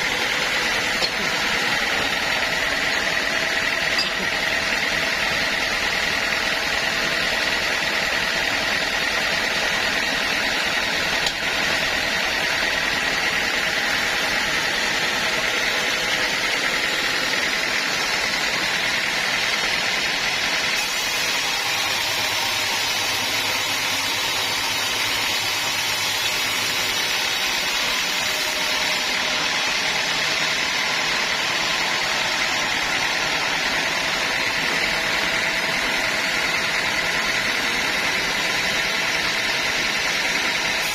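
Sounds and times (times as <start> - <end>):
sawmill machinery whining: 0.0 - 40.9.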